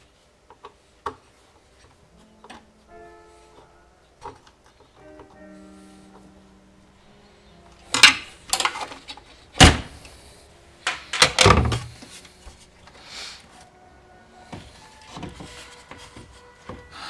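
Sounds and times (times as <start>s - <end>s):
faint steady tones: 0.0s - 17.0s.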